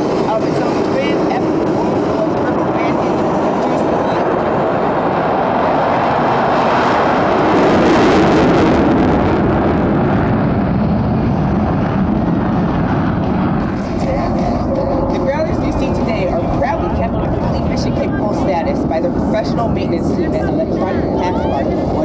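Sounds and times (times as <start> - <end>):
loud jet engine noise: 0.0 - 22.0.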